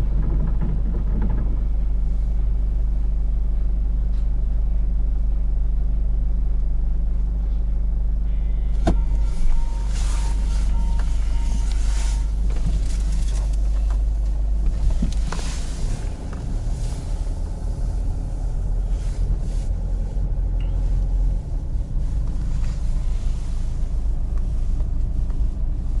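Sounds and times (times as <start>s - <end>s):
car rumbling: 0.0s - 26.0s.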